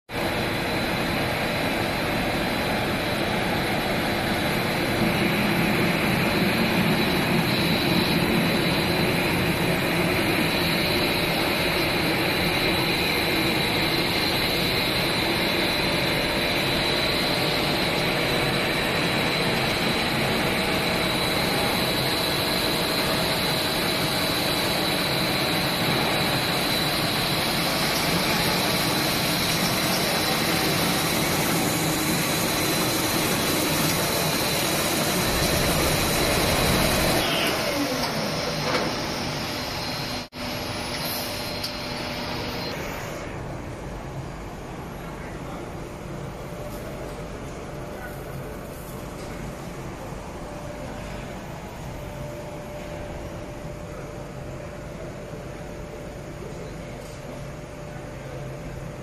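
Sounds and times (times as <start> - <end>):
high machine whine: 0.1 - 59.0
machinery drone: 0.2 - 54.3.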